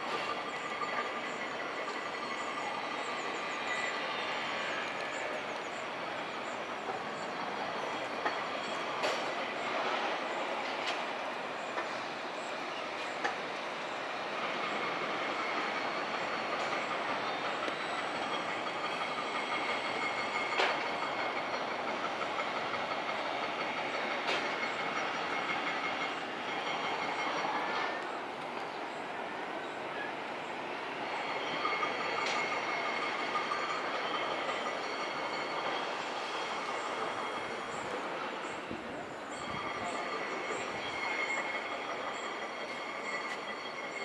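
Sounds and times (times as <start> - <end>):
train rumbling on rails: 0.0 - 44.0
train wheels squealing: 0.0 - 44.0.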